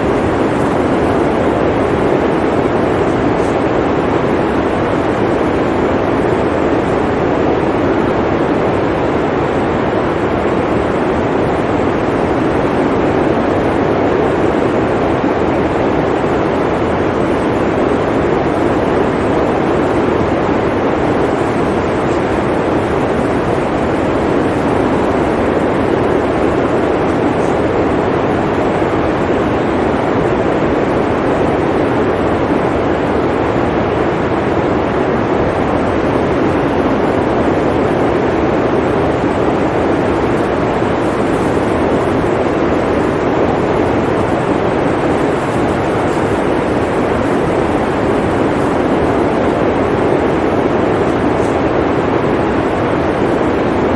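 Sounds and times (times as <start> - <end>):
blizzard wind blowing: 0.0 - 53.9.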